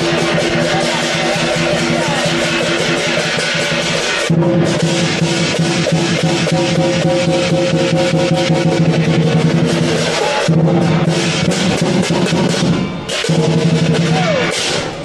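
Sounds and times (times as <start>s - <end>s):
clashing cymbals: 0.0s - 15.0s
drum beaten fast: 0.0s - 15.0s.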